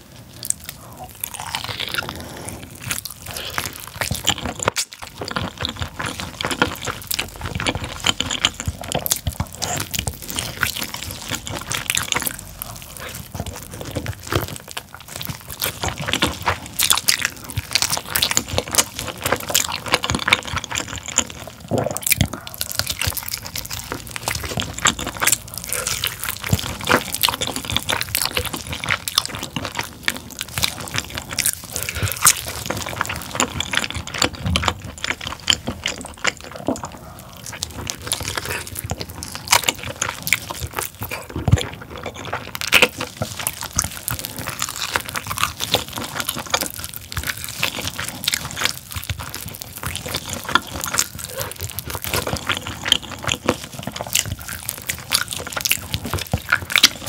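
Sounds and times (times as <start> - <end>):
wet chewing and lip smacking: 0.0 - 57.0.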